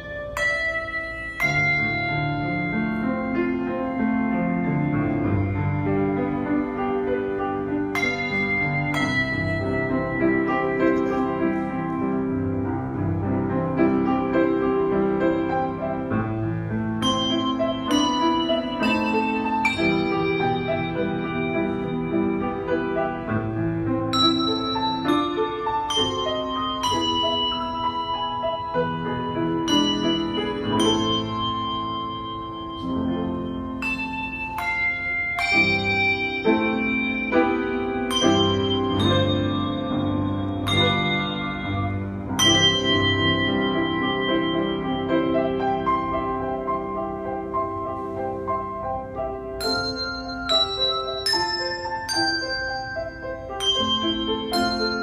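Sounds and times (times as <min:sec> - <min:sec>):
tuned bells ringing: 0:00.0 - 0:48.0, 0:49.0 - 0:55.0.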